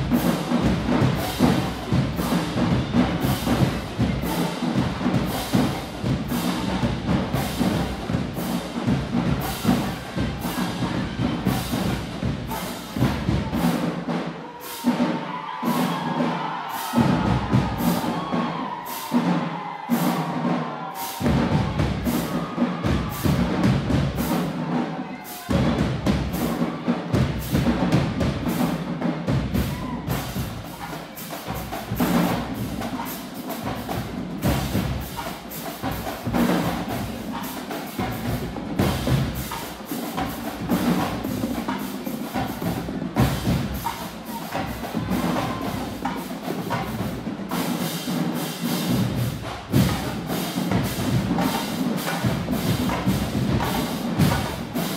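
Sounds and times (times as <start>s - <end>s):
drumline rapid drumming: 0.0s - 54.9s.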